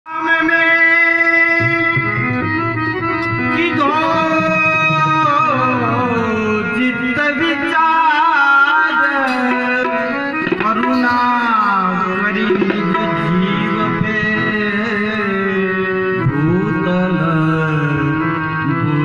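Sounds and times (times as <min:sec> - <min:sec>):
man singing ornamented melody: 0:00.1 - 0:02.4, 0:03.2 - 0:19.0
harmonium chord: 0:00.2 - 0:19.0.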